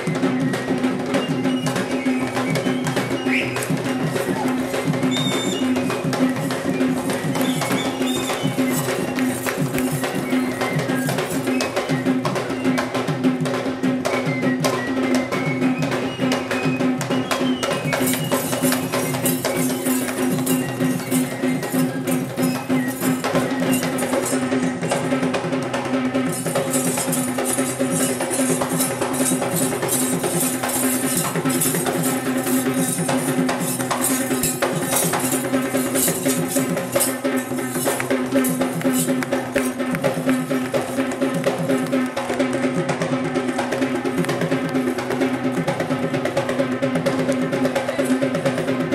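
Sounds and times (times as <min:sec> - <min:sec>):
barrel drums playing fast rhythm: 0:00.0 - 0:48.9.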